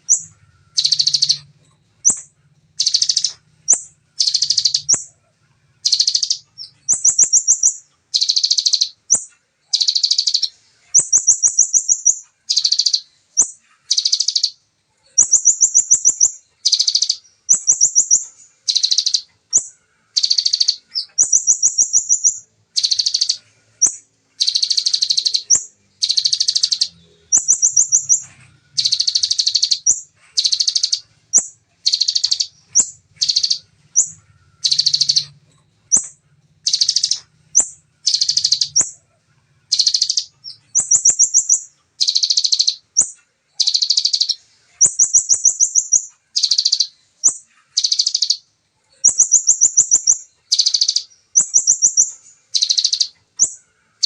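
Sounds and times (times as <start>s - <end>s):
bird singing in buzzy bursts: 0.0s - 54.0s.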